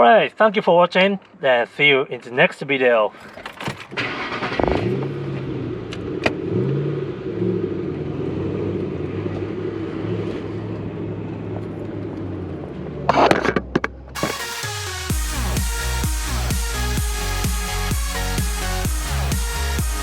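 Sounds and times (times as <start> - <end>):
car engine running: 3.9 - 20.0.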